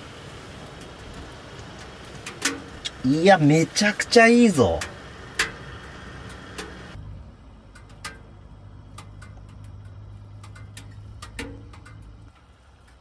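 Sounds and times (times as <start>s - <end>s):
firewood crackling in stove: 0.0s - 13.0s
low steady hum: 0.0s - 13.0s.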